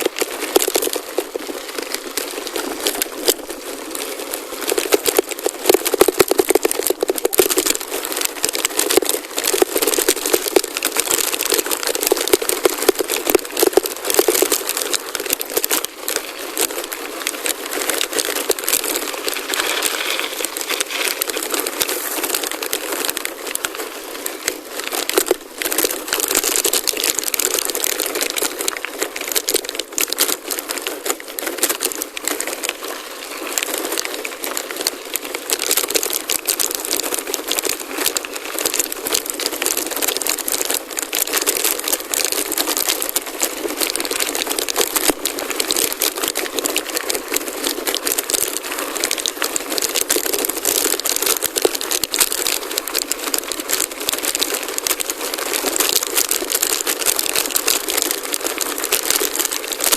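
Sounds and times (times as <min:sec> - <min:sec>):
bike tyres crunching on gravel: 0:00.0 - 0:59.9.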